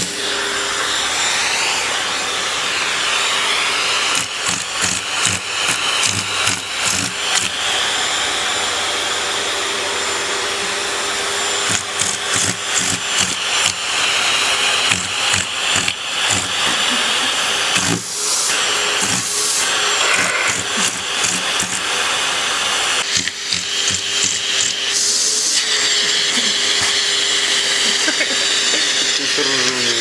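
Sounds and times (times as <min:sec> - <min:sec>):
vacuum cleaner whine: 0:00.0 - 0:30.0.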